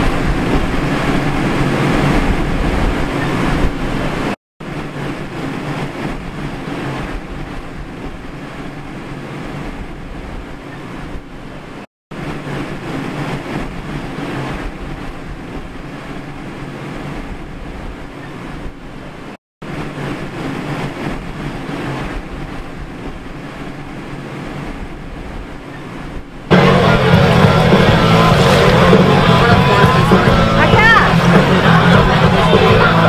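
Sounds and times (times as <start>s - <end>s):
engine rumble: 0.0s - 33.0s
wind noise: 0.0s - 33.0s.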